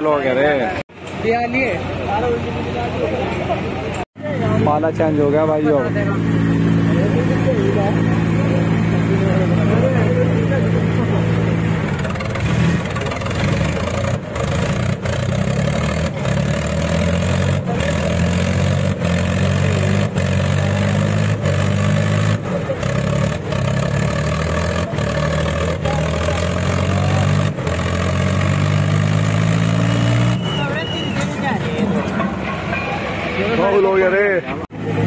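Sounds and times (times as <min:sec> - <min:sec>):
tractor diesel engines under load: 0:00.0 - 0:35.0.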